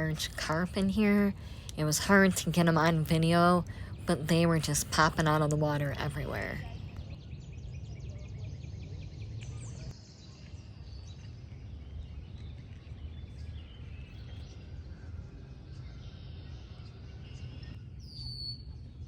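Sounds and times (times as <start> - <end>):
steady low rumble: 0.0 - 17.8.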